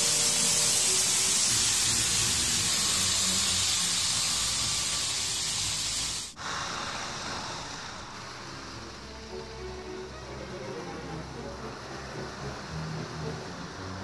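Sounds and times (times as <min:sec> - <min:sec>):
model train wheels hissing on track: 0:00.0 - 0:14.0.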